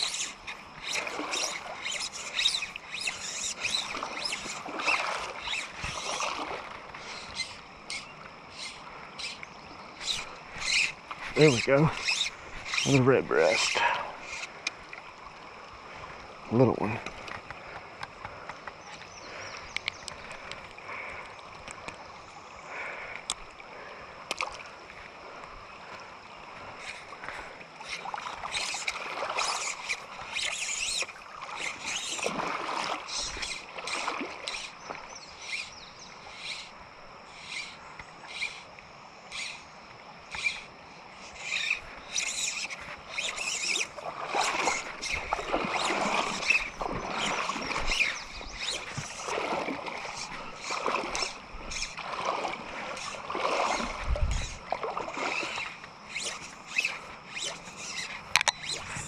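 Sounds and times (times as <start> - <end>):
water splashing: 0.0 - 17.8, 26.6 - 38.7, 40.4 - 59.0
river water running over rocks: 0.0 - 59.0.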